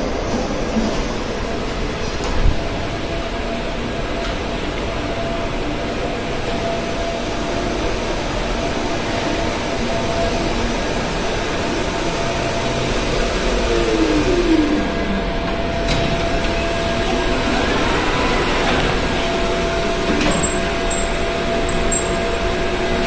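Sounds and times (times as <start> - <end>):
lift car rushing rumble: 0.0 - 23.0.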